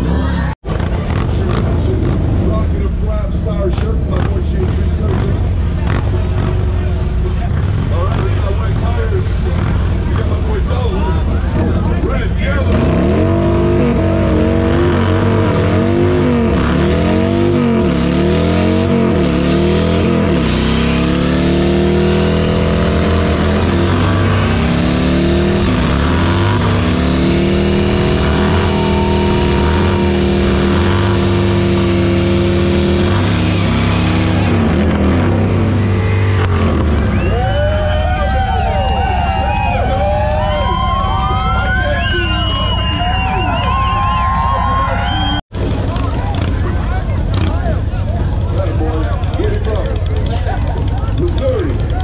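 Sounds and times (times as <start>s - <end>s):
motorcycle engines revving: 0.0s - 52.0s.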